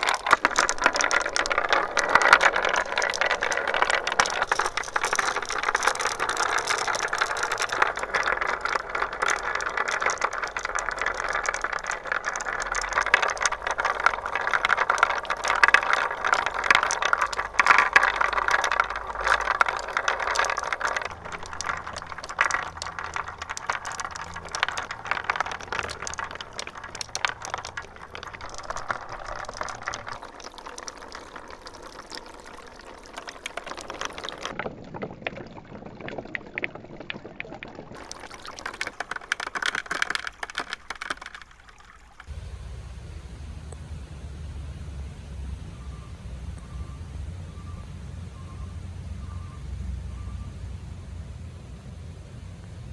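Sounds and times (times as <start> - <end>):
marbles rolling on plastic track: 0.0 - 42.4, 45.4 - 50.5.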